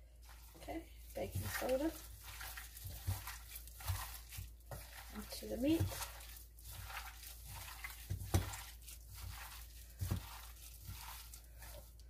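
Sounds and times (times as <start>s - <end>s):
plastic glove crinkling: 0.0s - 12.0s
squishing of raw meat: 0.0s - 12.0s.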